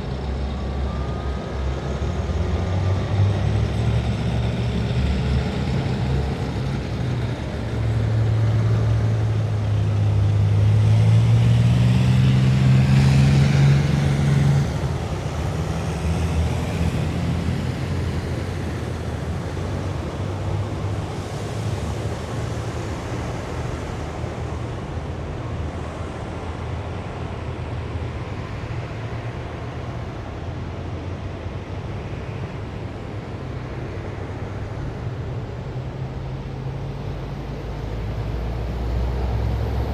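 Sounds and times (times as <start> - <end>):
heavy vehicle engine passing: 0.0 - 39.9
low rumble of engines: 0.0 - 39.9.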